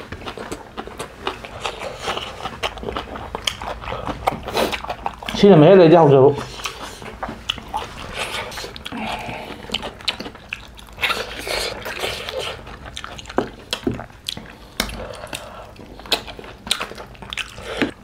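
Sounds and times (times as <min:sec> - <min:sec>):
people chewing food: 0:00.0 - 0:18.0
sucking on meat and bones: 0:00.0 - 0:18.0.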